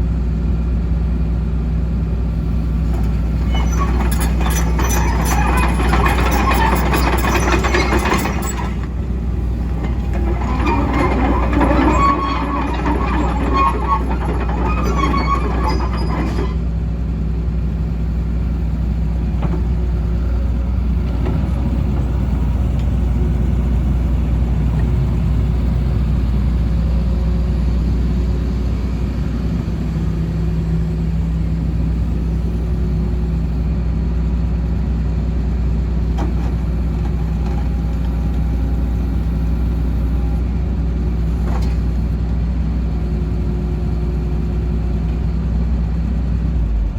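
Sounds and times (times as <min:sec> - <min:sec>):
excavator diesel engine running: 0:00.4 - 0:46.9.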